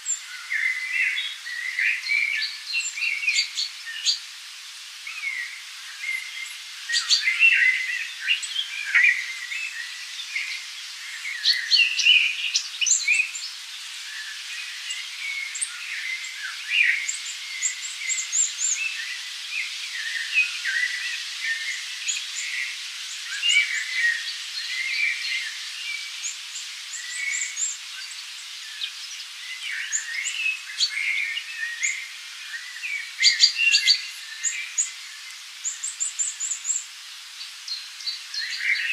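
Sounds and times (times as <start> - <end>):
forest birds singing: 0.0 - 38.9.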